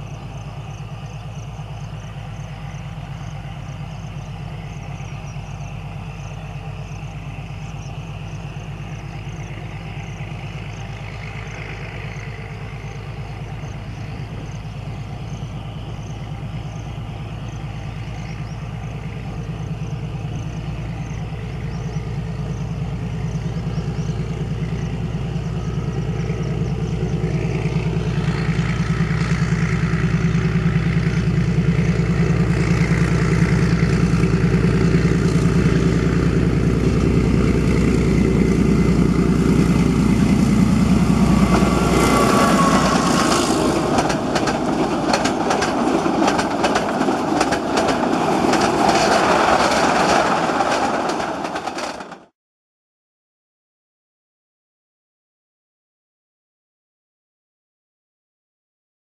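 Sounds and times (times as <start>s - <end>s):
diesel locomotive engine pulsing: 0.0s - 52.3s.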